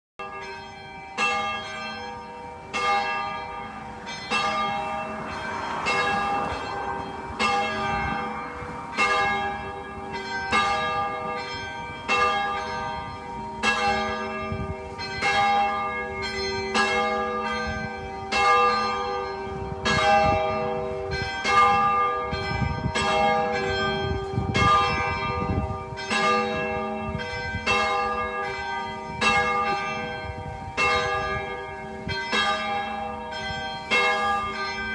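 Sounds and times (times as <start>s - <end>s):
church bells ringing: 0.2s - 34.9s.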